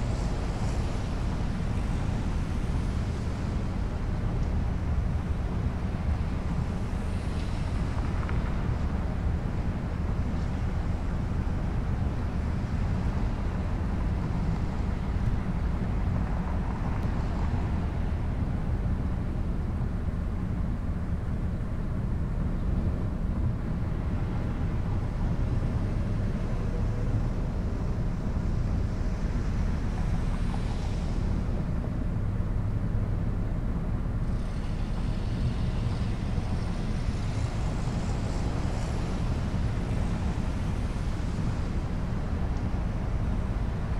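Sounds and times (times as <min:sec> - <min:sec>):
road noise and wind rumble: 0:00.0 - 0:43.9.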